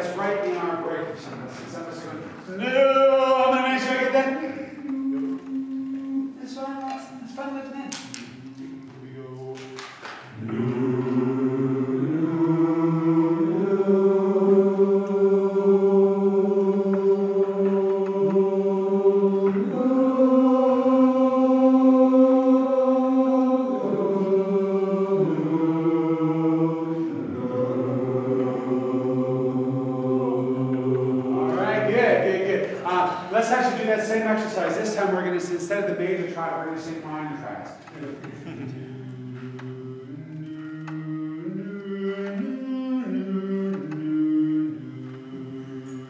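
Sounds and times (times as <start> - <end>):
men's chorus singing chords: 0.0 - 6.4, 8.2 - 46.0.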